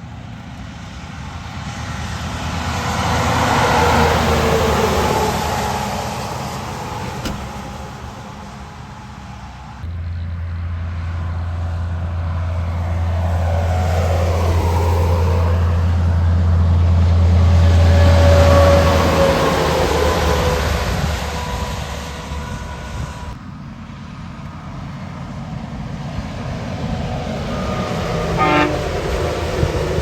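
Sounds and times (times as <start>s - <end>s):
vehicles passing on highway: 0.0s - 30.0s.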